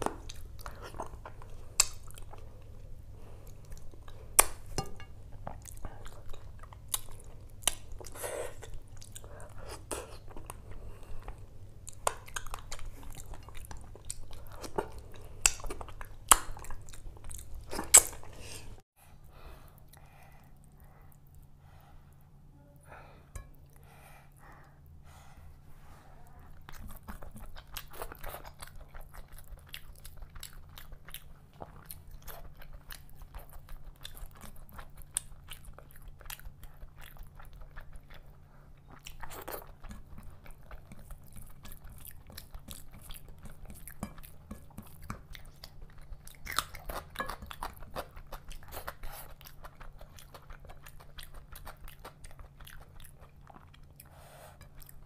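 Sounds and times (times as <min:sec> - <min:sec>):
chewing and mouth smacking: 0:00.0 - 0:18.8, 0:26.2 - 0:55.0.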